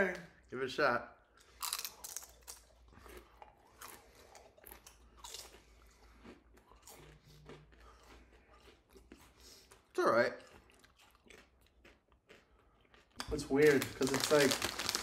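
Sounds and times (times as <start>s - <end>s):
chips crunching while chewed: 1.4s - 15.0s.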